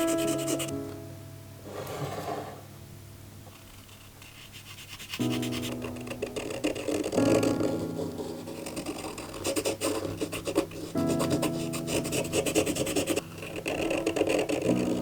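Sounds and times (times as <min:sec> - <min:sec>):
marker nib scratching on pebble: 0:00.0 - 0:00.7, 0:03.5 - 0:15.0
soft background music: 0:00.0 - 0:03.0, 0:05.1 - 0:15.0.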